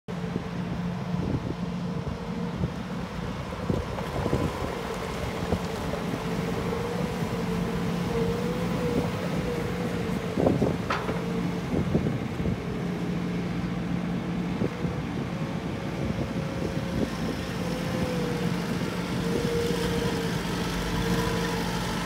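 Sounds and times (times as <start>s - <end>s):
diesel engine humming and whining: 0.1s - 22.0s.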